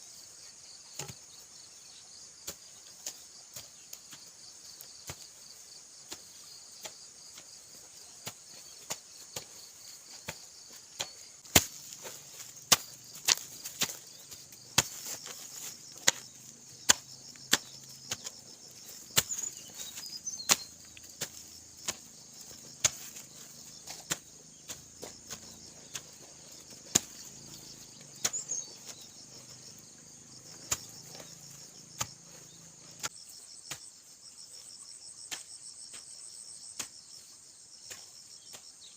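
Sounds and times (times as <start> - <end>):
crickets chirping: 0.0 - 38.9
hoe chopping into soil: 0.9 - 1.4, 2.4 - 33.9, 35.3 - 36.1.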